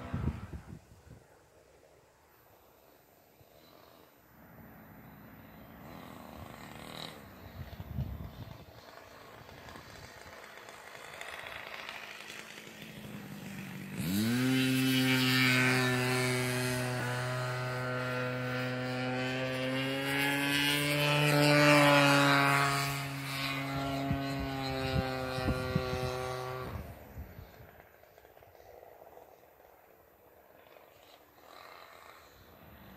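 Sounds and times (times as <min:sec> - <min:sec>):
model airplane engine buzzing: 0:00.0 - 0:32.9.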